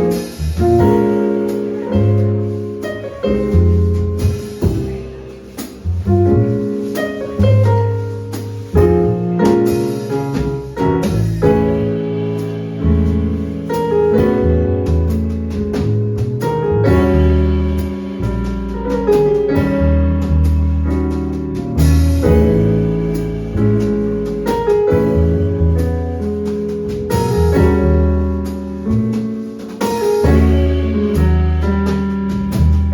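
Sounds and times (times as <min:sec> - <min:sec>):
sharp drum or cymbal strokes: 0:00.0 - 0:25.4, 0:26.4 - 0:32.9
bass: 0:00.0 - 0:32.9
drums: 0:00.0 - 0:32.9
jazz piano: 0:00.0 - 0:32.9.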